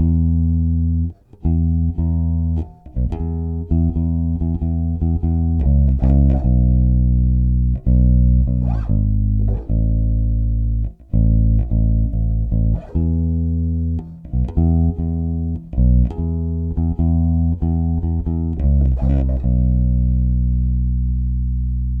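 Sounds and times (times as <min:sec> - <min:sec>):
electric bass plucked notes: 0:00.0 - 0:22.0.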